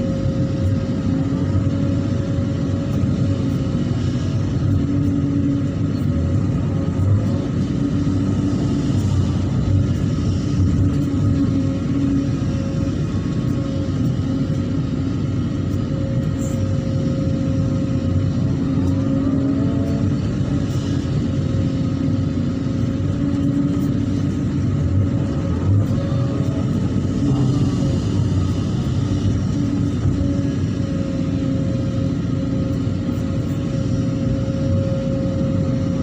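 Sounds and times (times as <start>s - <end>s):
excavator diesel engine running: 0.0s - 36.0s
whine: 0.0s - 36.0s.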